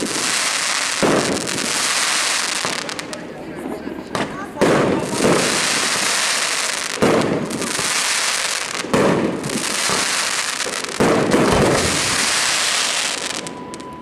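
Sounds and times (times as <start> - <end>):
fireworks bangs: 0.0 - 14.0
fireworks crackling hiss: 0.0 - 14.0.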